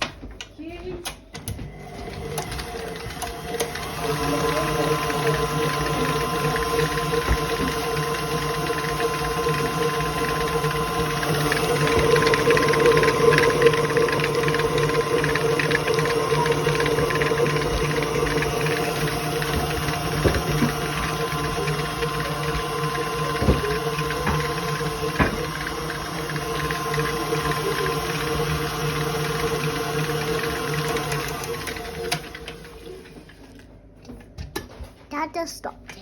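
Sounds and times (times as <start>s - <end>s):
electric food mixer running: 1.5s - 33.6s.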